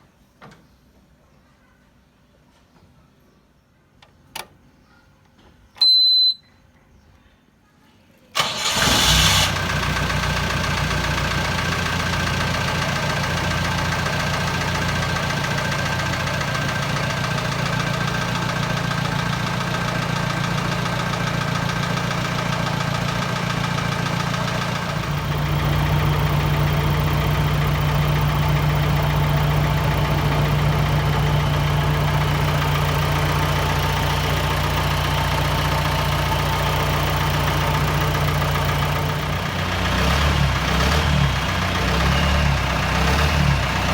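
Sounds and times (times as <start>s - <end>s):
jeep engine idling: 8.4s - 43.9s.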